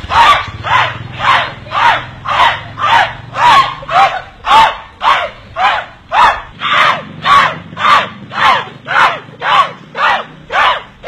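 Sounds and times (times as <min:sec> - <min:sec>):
voices chanting in unison: 0:00.0 - 0:11.0.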